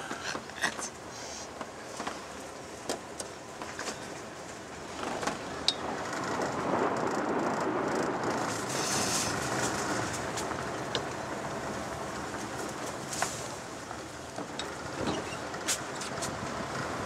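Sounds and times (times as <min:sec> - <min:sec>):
car tyre and engine noise: 0:00.0 - 0:17.0.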